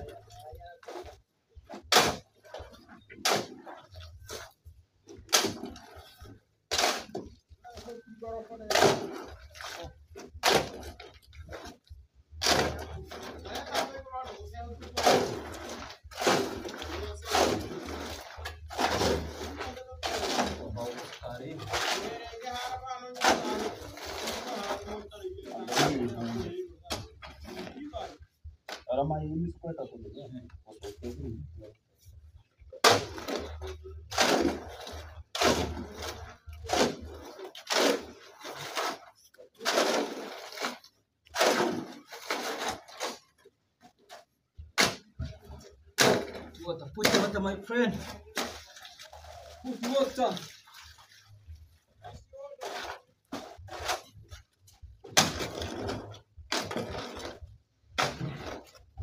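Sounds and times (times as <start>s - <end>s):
shovel scraping wet concrete: 0.9s - 7.4s, 8.6s - 28.2s, 32.7s - 43.3s, 44.7s - 51.0s, 52.1s - 59.0s.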